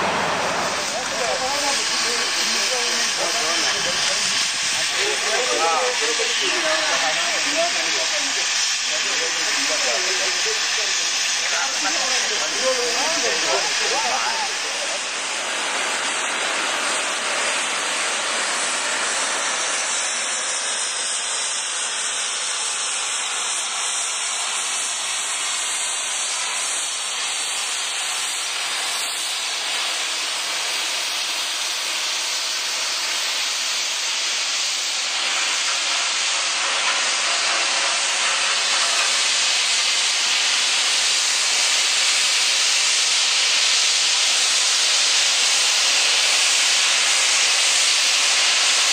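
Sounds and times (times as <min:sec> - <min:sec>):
steam locomotive hissing: 0:00.0 - 0:48.9.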